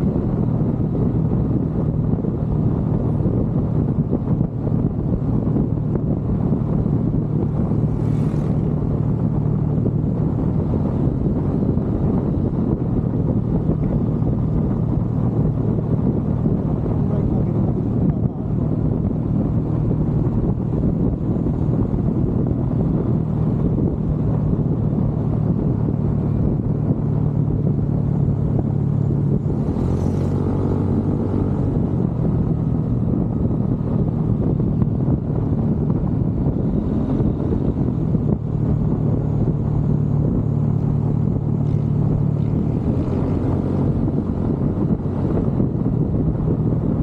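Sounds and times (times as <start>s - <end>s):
motorcycle engine droning: 0.0s - 47.0s
wind noise on microphone: 0.0s - 47.0s.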